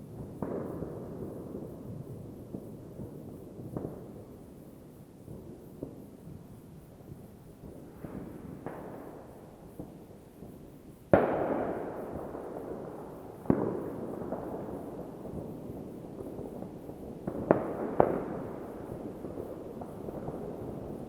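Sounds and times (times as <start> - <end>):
fireworks bang: 0.0 - 4.3, 7.6 - 21.0
fireworks popping: 0.0 - 21.0.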